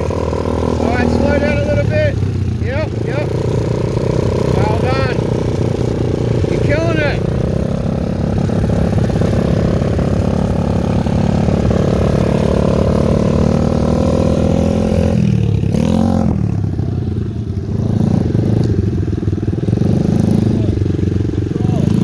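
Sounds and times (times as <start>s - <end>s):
small motorcycle engine running: 0.0s - 22.0s.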